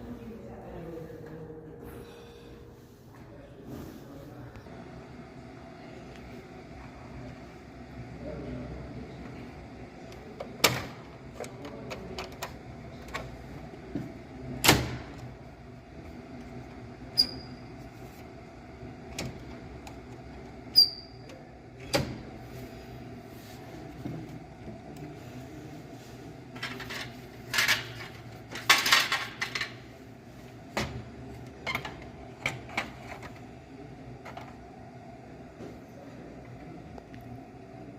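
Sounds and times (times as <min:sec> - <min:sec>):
copier machine hum: 0:00.0 - 0:37.9.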